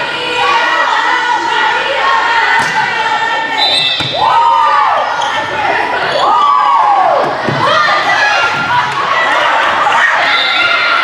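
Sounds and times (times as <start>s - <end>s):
girls calling and shouting: 0.0s - 11.0s.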